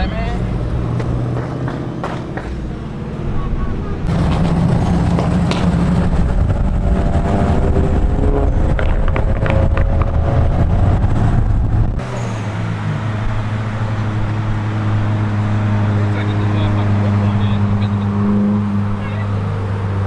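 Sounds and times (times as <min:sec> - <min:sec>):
cars cruising past: 0:00.0 - 0:20.0.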